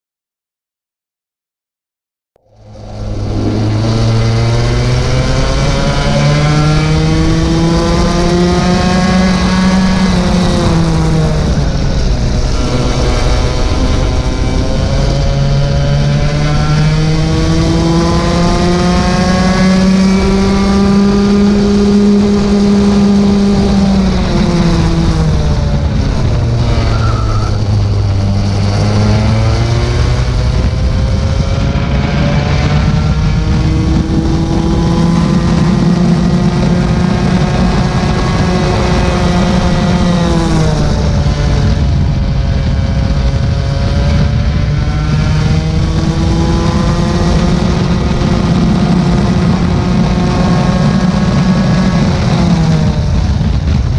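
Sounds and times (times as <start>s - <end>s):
kart engine racing: 2.4s - 53.9s.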